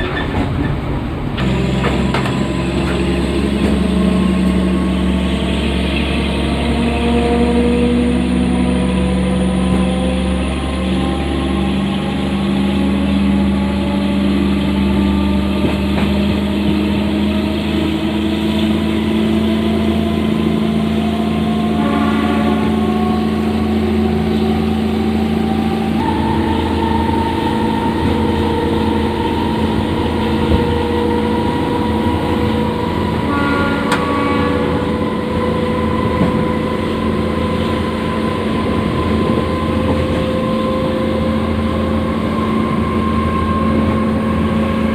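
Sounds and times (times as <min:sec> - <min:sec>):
moving train: 0:00.0 - 0:44.9.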